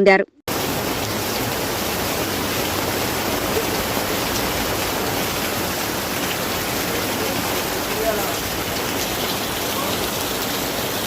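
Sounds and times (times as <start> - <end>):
heavy rain falling: 0.5 - 11.0.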